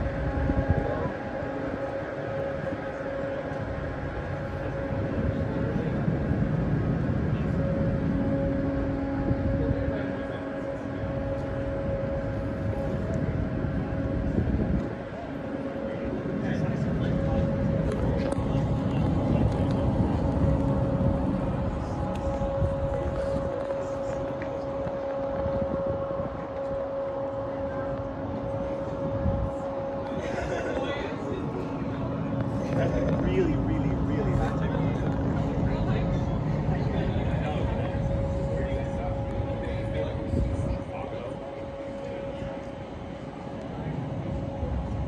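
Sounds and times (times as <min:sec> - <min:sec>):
ship engines rumbling: 0:00.0 - 0:45.0
steady hum: 0:00.0 - 0:45.0
wind buffeting microphone: 0:00.0 - 0:45.0.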